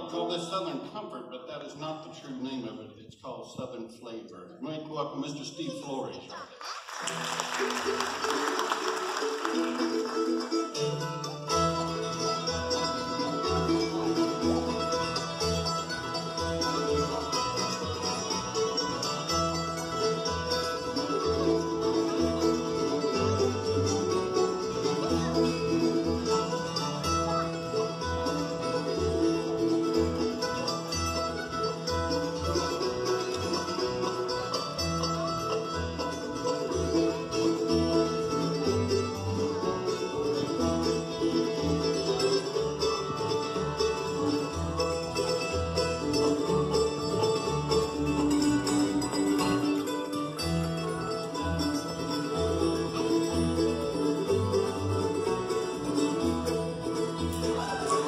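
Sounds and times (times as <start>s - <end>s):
banjo: 0.0s - 58.0s
mandolin: 0.0s - 58.0s
acoustic guitars: 6.2s - 58.0s
resonator guitar: 7.4s - 58.0s
upright bass: 7.6s - 58.0s.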